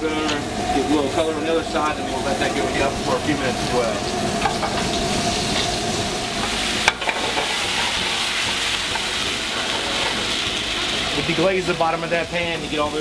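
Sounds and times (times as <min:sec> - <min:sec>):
meat sizzling on a grill: 0:00.0 - 0:13.0
wine hissing in hot pan: 0:00.0 - 0:13.0.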